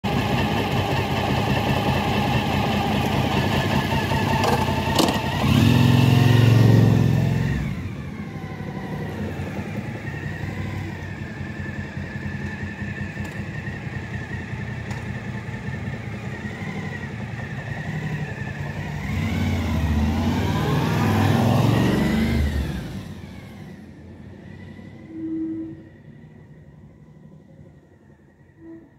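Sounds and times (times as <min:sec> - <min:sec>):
motorcycle engine revving: 0:00.1 - 0:27.7.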